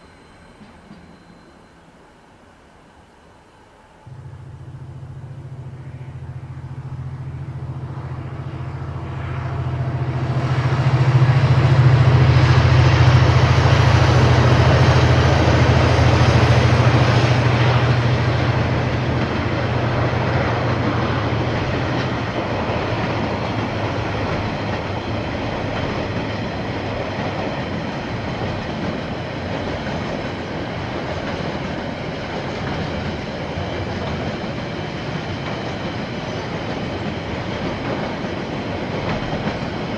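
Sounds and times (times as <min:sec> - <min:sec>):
locomotive engine drone: 0:03.8 - 0:39.9.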